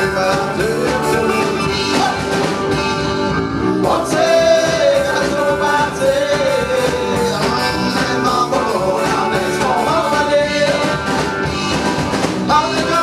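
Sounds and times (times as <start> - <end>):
person singing lead vocal: 0.0 - 2.6, 3.6 - 11.2, 12.5 - 13.0
live band playing: 0.0 - 13.0.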